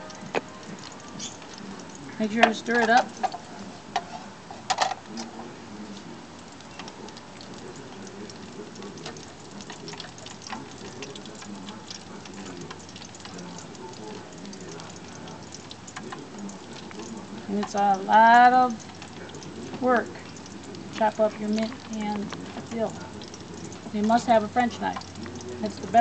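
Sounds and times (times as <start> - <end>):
onions sizzling and crackling in oil: 0.0 - 26.0.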